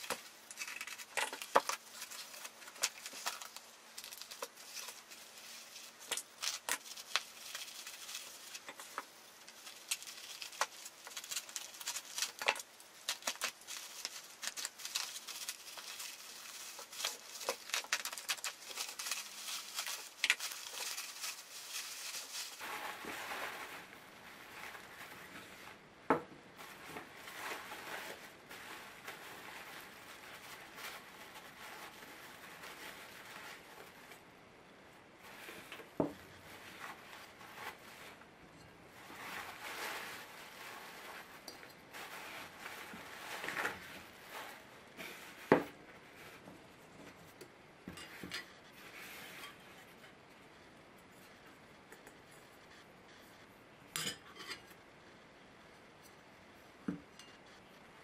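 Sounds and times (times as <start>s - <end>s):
bubble wrap crinkling and crackling: 0.0s - 25.9s, 26.5s - 53.6s.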